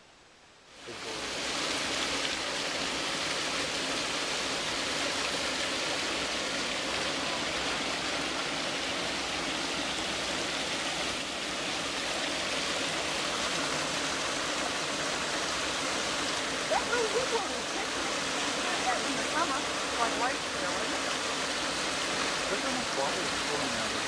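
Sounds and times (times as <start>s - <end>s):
water rushing down a spillway: 0.6s - 24.0s.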